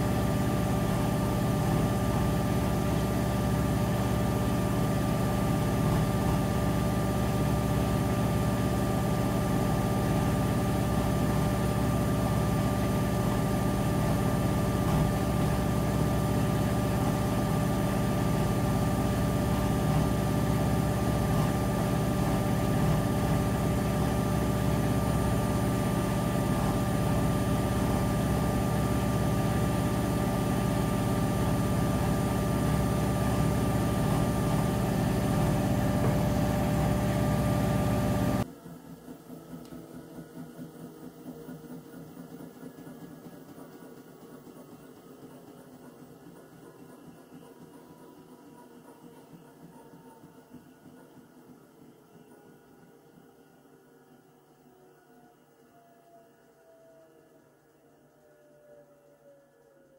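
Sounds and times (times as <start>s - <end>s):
washing machine humming and whining: 0.0s - 59.9s.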